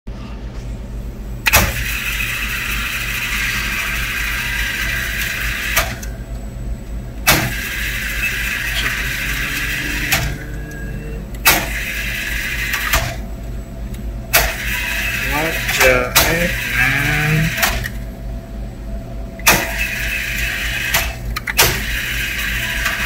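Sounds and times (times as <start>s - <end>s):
machine low hum: 0.1s - 23.0s
vending machine motor whirring: 0.9s - 23.0s.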